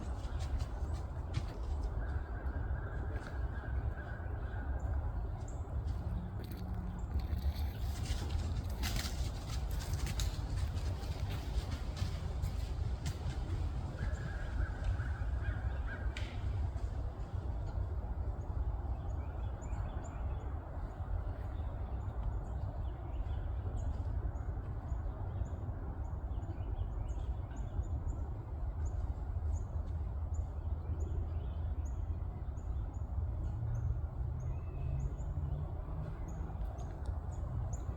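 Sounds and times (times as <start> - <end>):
steady low rumble: 0.0 - 37.9.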